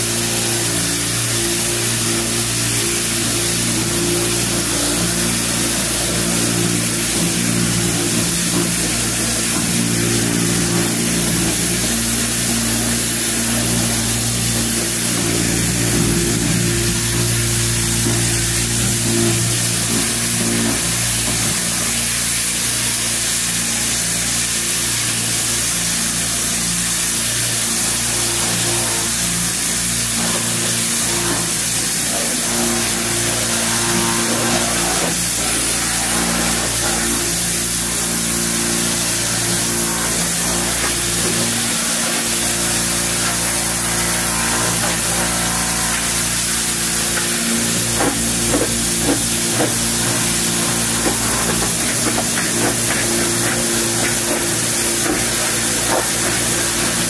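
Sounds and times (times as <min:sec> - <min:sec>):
pressure washer spraying water: 0:00.0 - 0:57.0.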